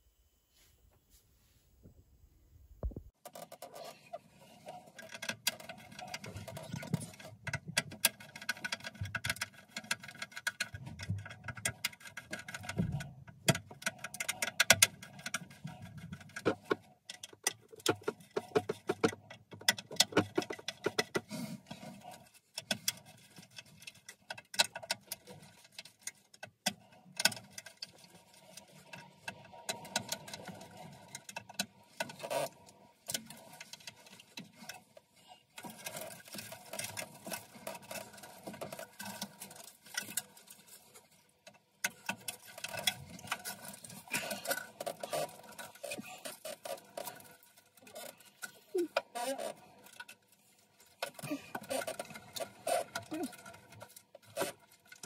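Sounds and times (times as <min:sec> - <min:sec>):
small clicks and rustles of cables: 0:02.8 - 0:55.0.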